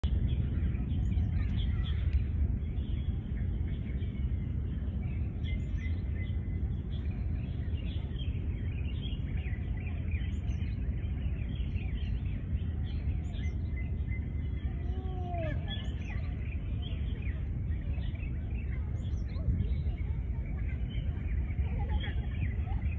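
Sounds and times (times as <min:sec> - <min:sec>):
birds chirping and twittering: 0:00.0 - 0:22.9
steady low rumble: 0:00.0 - 0:22.9.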